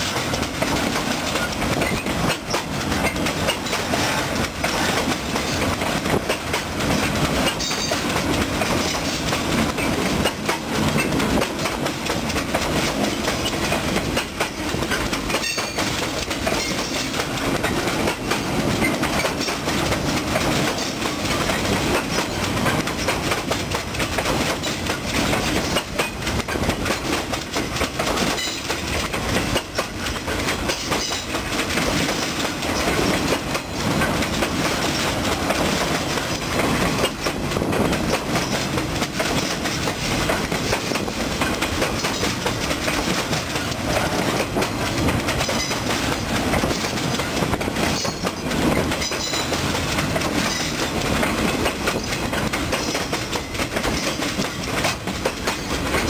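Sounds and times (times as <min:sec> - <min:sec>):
train wheels clattering: 0:00.0 - 0:56.0.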